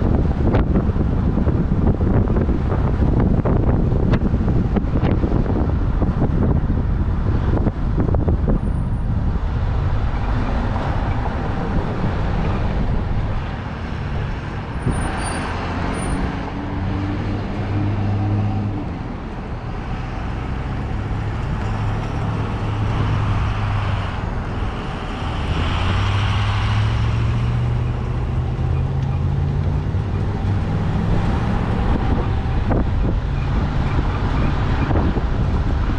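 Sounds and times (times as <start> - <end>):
wind rumbling on microphone: 0.0 - 35.9.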